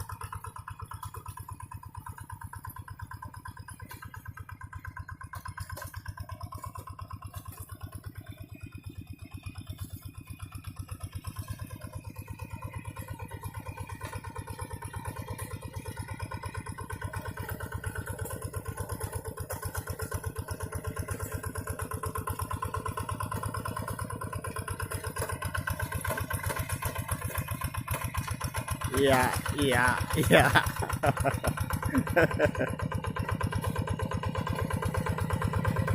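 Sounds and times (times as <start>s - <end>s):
hand tractor diesel engine running: 0.0s - 35.9s.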